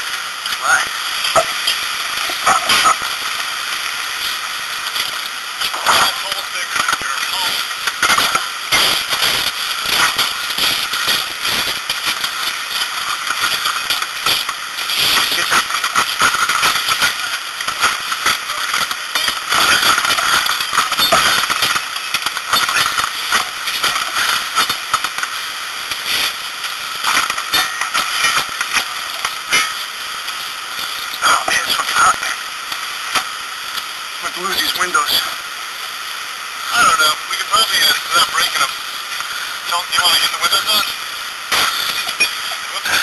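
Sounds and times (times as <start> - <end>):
fire crackling and popping: 0.0 - 43.0
fire hiss: 0.0 - 43.0.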